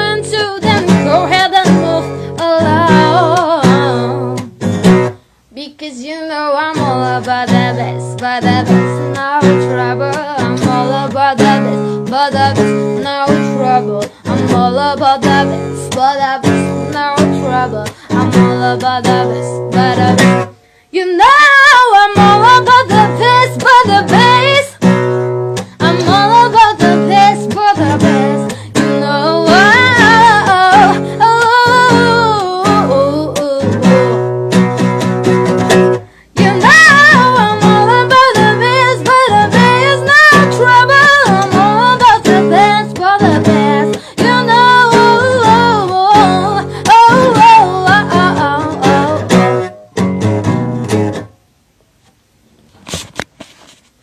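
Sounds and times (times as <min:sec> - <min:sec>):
woman singing: 0:00.0 - 0:04.5, 0:05.5 - 0:49.7
acoustic guitar strumming: 0:00.0 - 0:05.3, 0:06.6 - 0:51.4.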